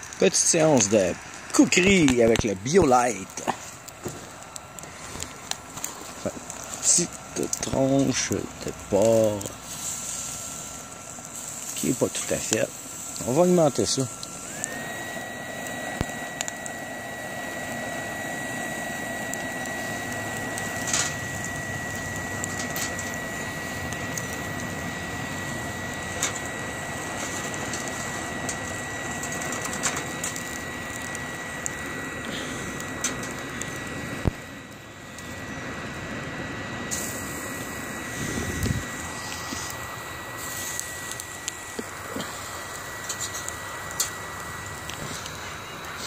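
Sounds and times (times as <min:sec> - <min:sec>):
electric fan whine: 0:00.0 - 0:46.0
wood fire rushing: 0:00.0 - 0:46.0.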